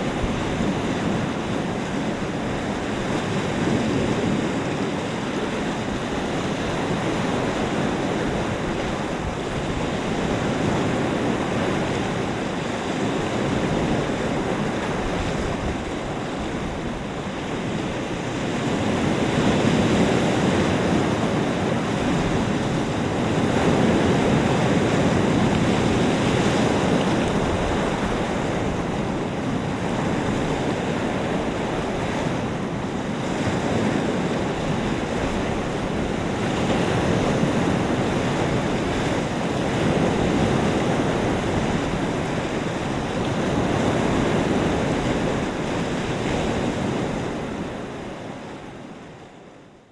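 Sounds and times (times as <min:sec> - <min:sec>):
lake waves washing on shore: 0:00.0 - 0:49.9
wind: 0:00.0 - 0:49.9.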